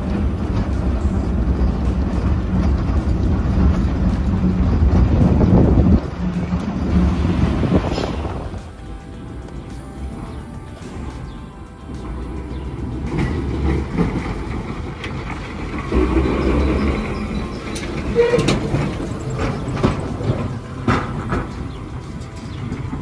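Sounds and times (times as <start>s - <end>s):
tram running gear rumbling: 0.0s - 23.0s
wheels knocking over rail joints: 0.0s - 23.0s.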